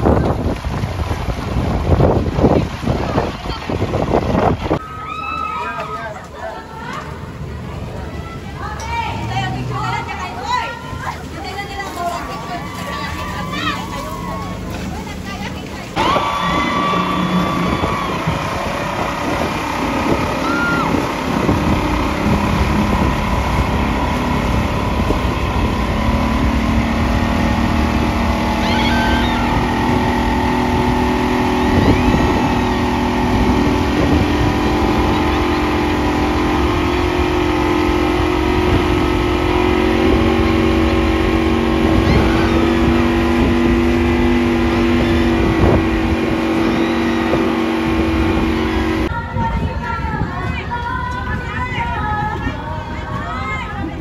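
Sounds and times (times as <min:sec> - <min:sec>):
motorboat engine running: 0:00.0 - 0:04.8, 0:06.0 - 0:54.0
churning boat wake: 0:00.0 - 0:54.0.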